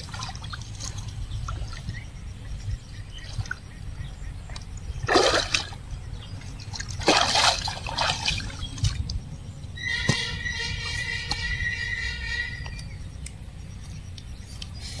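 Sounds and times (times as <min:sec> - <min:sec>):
water splashing and sloshing: 0:00.0 - 0:14.8.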